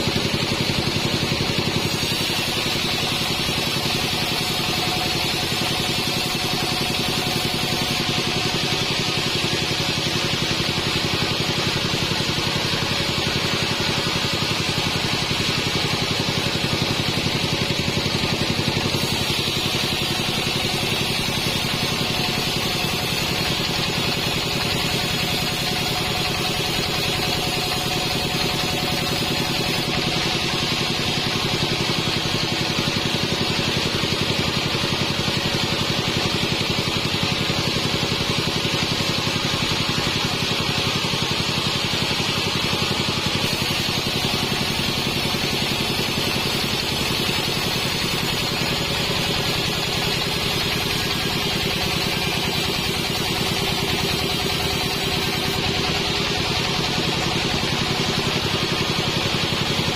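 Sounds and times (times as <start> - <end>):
band sawmill motor drone: 0.0 - 59.9.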